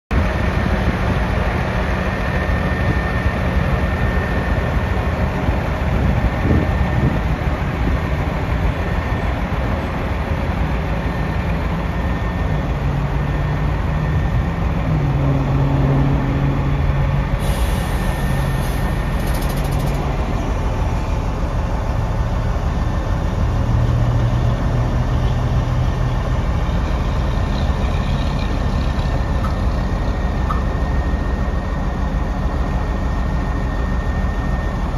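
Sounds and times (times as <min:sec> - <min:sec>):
diesel engine rumbling: 0:00.1 - 0:34.9.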